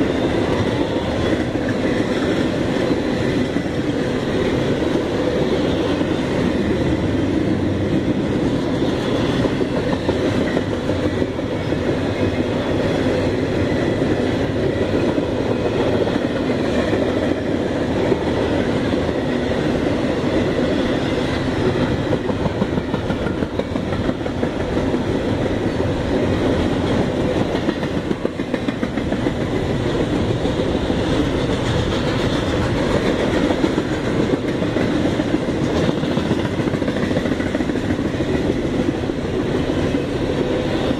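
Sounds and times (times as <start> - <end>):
freight train wheels rumbling on rail: 0.0 - 40.9.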